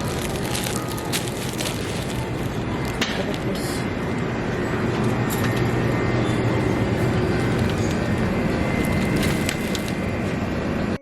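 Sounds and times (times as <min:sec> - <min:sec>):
faint hum: 0:00.0 - 0:11.0
low mechanical rumble: 0:00.0 - 0:11.0.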